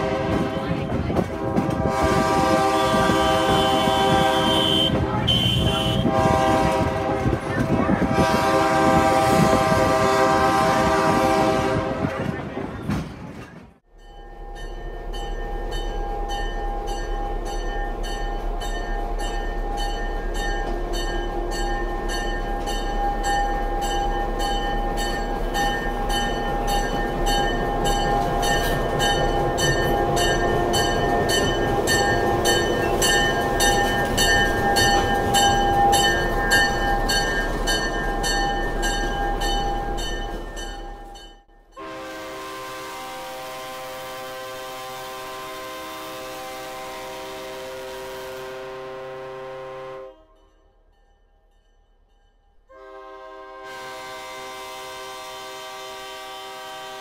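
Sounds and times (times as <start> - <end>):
diesel locomotive engine rumble: 0.0 - 50.9.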